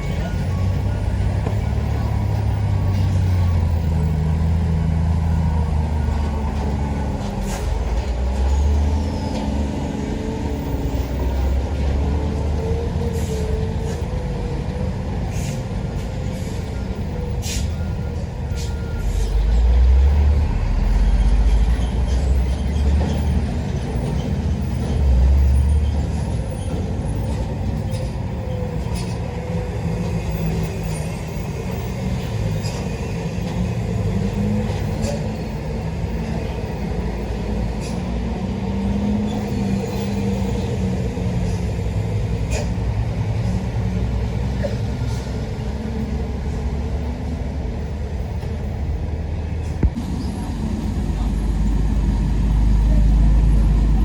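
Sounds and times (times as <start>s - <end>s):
diesel engines droning: 0.0s - 54.0s
heavy vehicle rumbling: 0.0s - 54.0s.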